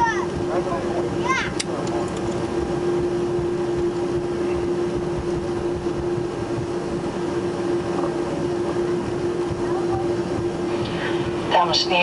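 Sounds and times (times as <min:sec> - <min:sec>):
airplane cabin rolling noise: 0:00.0 - 0:12.0
constant hum: 0:00.0 - 0:12.0.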